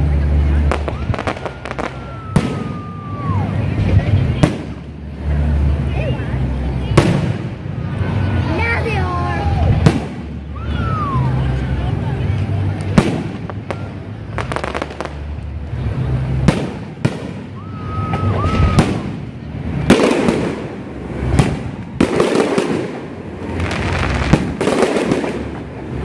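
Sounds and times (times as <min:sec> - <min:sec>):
fireworks bangs: 0:00.0 - 0:26.0
fireworks crackle: 0:00.0 - 0:26.0.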